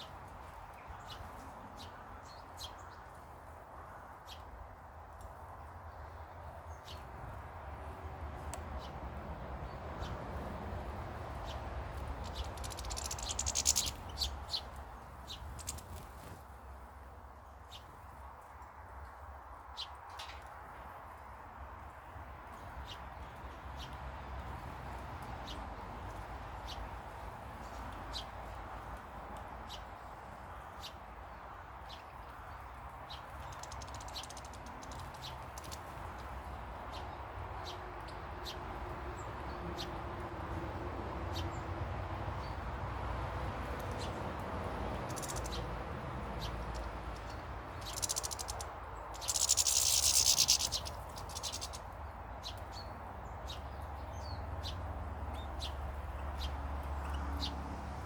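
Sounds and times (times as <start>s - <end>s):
garden birds chirping: 0.0s - 21.0s, 21.9s - 40.2s, 41.3s - 42.8s, 43.6s - 57.8s.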